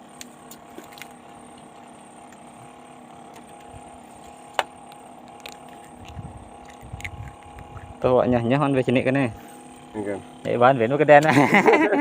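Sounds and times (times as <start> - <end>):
mechanical hum with held tones: 0.0 - 12.0.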